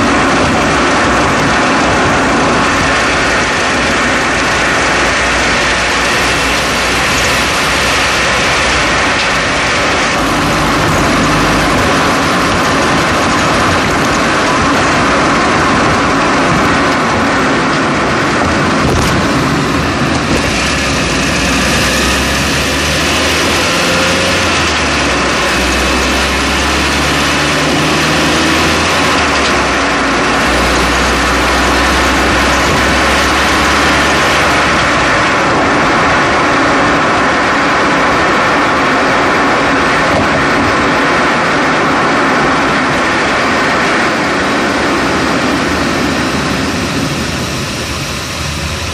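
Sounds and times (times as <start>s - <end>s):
low engine hum: 0.0s - 48.9s
road and tyre noise: 0.0s - 48.9s.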